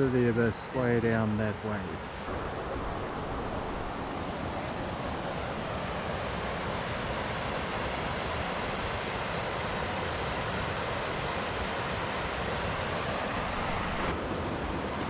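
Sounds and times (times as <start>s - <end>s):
river rushing over rapids: 2.3s - 15.0s.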